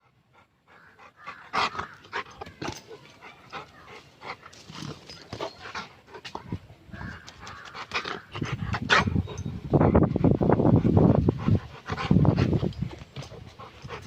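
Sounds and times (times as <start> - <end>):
dog panting: 0.0 - 6.6, 7.3 - 14.0.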